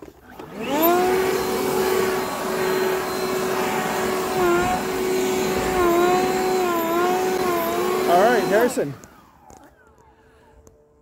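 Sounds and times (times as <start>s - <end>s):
electric leaf blower whine: 0.0s - 11.0s.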